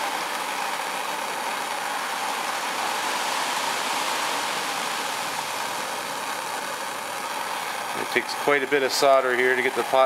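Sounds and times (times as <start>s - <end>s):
gas torch flame hissing: 0.0s - 10.0s.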